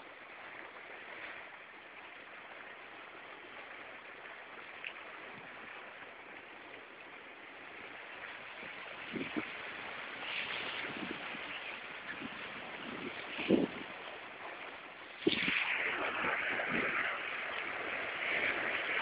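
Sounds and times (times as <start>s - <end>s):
water rushing along boat hull: 0.0s - 19.0s.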